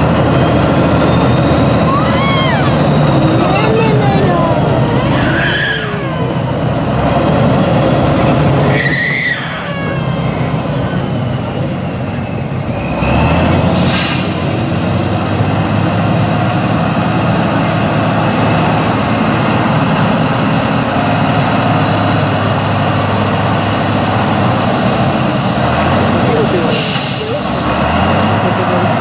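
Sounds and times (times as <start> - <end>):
diesel truck engine under load: 0.0 - 29.0.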